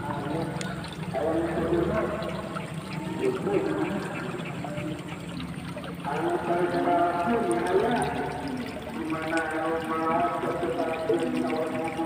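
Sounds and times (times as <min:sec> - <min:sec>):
fast-flowing stream rushing: 0:00.0 - 0:12.0.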